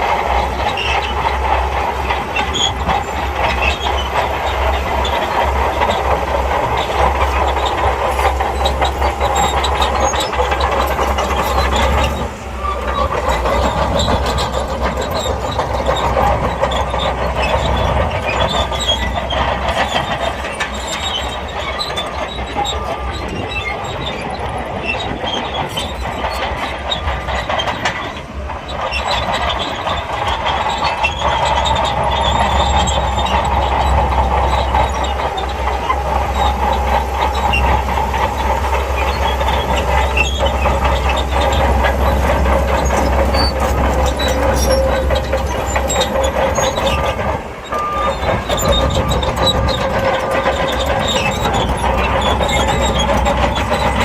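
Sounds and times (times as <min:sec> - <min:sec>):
bulldozer diesel engine: 0:00.0 - 0:54.0
steel tracks clanking: 0:00.0 - 0:54.0.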